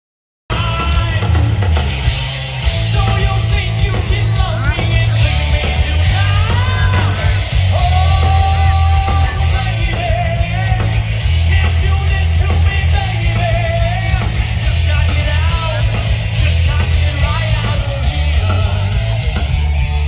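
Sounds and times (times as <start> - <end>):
rock band playing loudly: 0.5 - 20.0.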